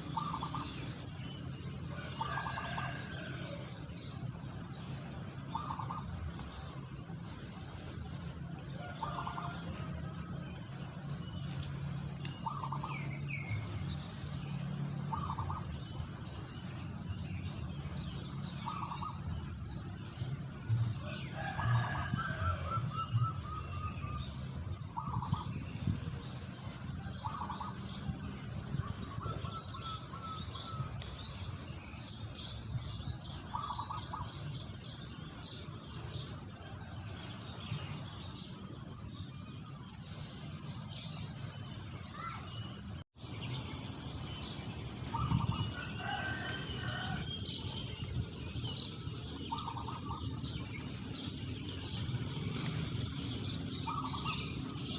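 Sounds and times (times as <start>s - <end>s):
low steady rumble: 0.0s - 54.9s
wild birds singing and calling: 0.0s - 54.9s.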